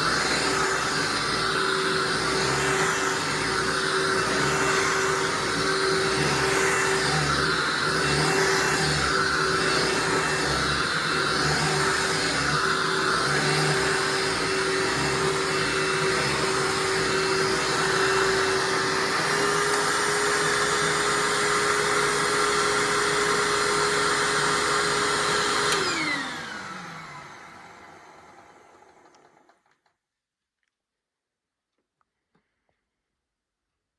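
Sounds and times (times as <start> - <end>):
vacuum cleaner motor running: 0.0 - 29.6.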